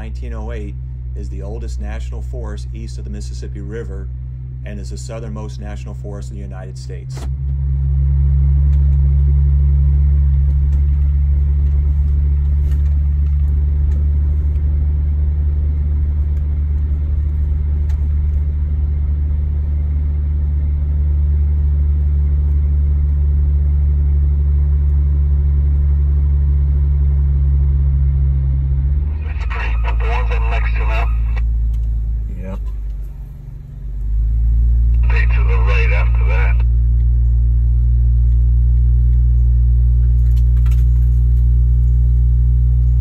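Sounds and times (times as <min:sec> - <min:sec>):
vehicle engine driving drone: 0:00.0 - 0:43.0.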